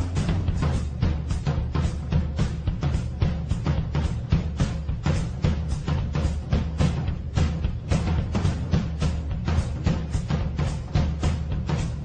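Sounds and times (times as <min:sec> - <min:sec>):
bass-heavy music with drum beat: 0:00.0 - 0:12.0.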